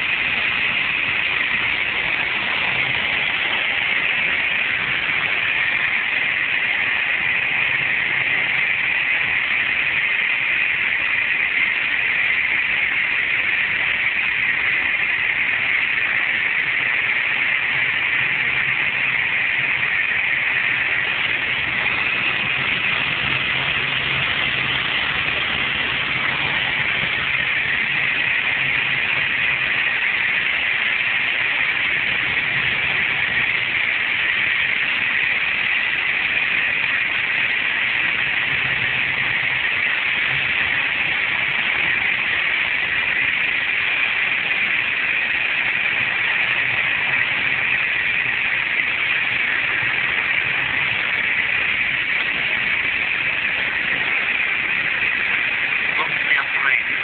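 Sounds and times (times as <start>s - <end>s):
cabin air noise: 0.0s - 57.0s
light aircraft engine drone: 0.0s - 57.0s.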